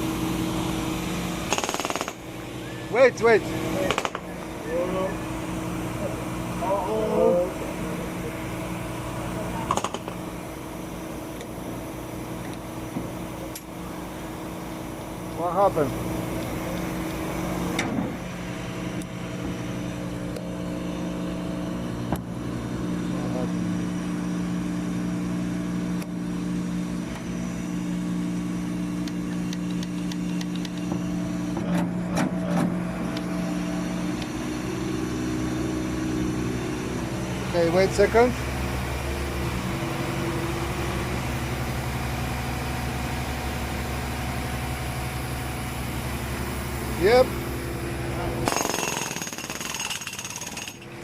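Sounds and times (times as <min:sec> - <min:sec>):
truck engine and machinery hum: 0:00.0 - 0:51.0.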